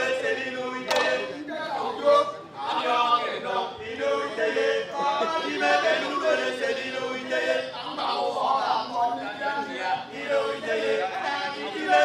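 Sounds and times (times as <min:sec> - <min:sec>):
men chanting together: 0:00.0 - 0:12.0.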